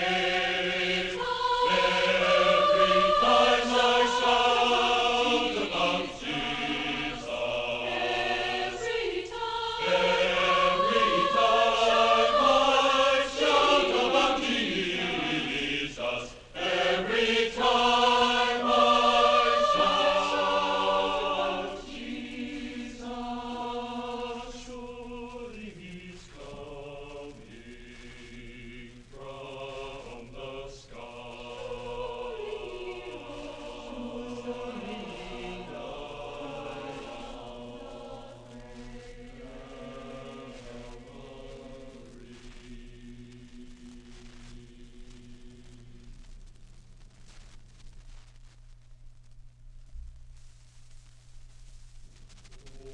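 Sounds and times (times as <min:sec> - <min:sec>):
choir singing chords: 0:00.0 - 0:46.1.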